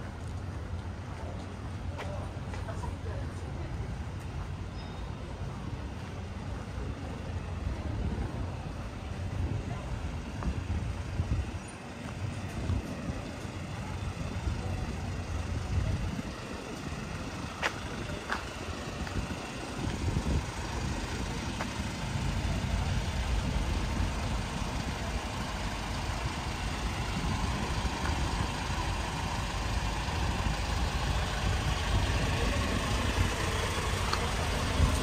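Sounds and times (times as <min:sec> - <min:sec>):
low street rumble: 0:00.0 - 0:35.0.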